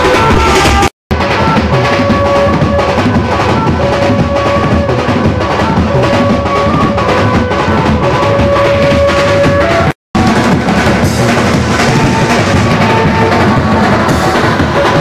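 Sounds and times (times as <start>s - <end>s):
loud continuous drumming: 0.0s - 15.0s.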